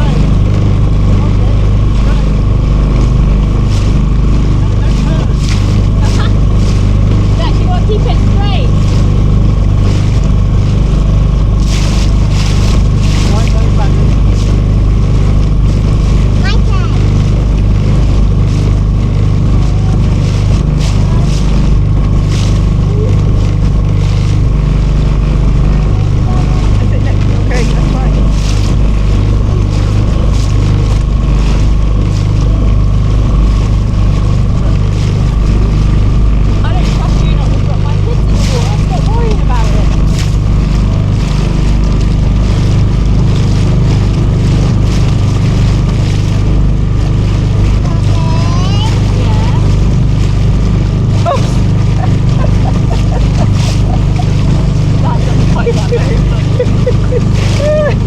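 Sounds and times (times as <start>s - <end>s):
motorboat engine running: 0.0s - 58.0s
wind: 0.0s - 58.0s.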